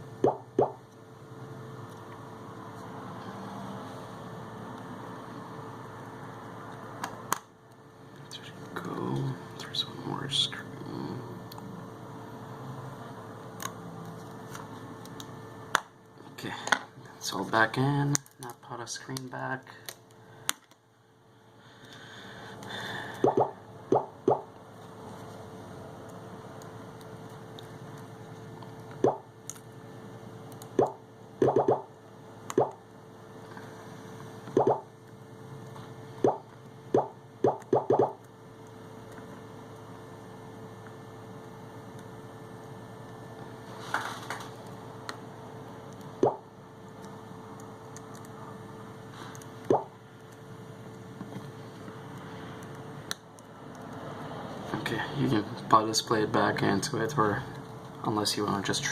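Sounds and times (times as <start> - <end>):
steady electrical hum: 0.0 - 58.9.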